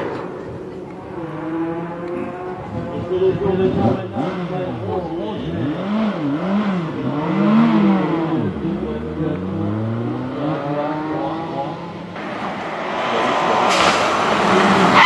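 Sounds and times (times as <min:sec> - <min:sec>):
another car engine: 0:00.0 - 0:15.0
rally car engine revving: 0:00.0 - 0:15.0.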